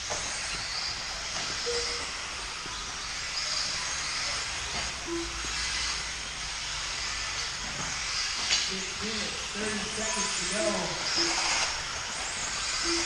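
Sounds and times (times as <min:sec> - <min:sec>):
electric rc cars whining: 0:00.0 - 0:13.0.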